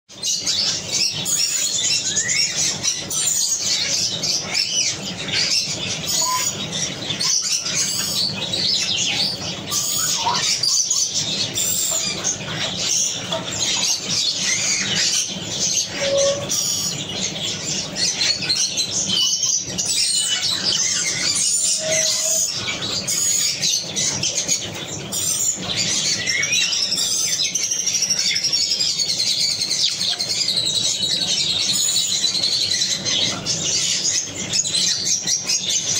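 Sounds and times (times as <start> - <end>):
birds chirping in chorus: 0.1 - 35.9
low bird calls: 0.1 - 35.9.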